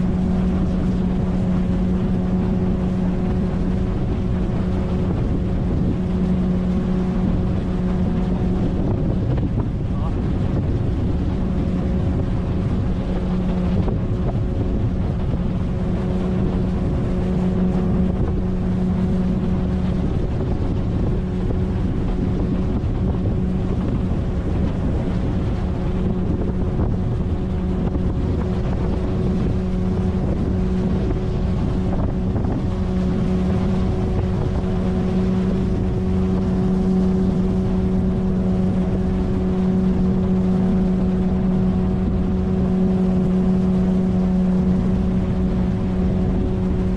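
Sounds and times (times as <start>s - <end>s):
outboard motor running: 0.0s - 46.9s
wind buffeting microphone: 0.0s - 46.9s.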